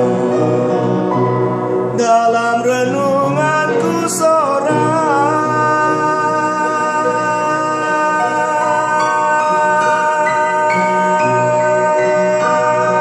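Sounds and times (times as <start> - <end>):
man singing a slow song: 1.9 - 13.0.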